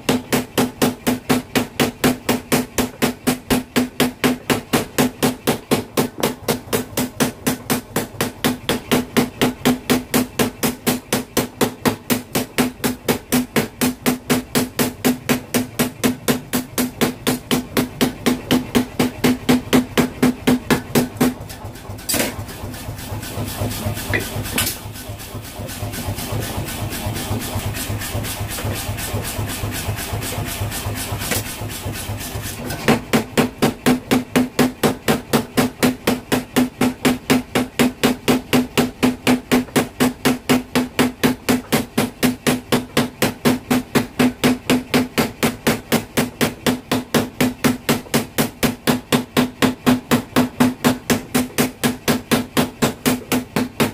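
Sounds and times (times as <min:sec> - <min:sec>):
power hammer pounding metal: 0:00.0 - 0:53.9.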